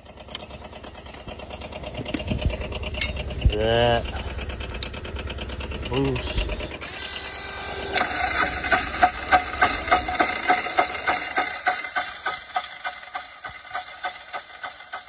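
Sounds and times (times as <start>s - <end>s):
diesel engine cranking: 0.0s - 15.0s.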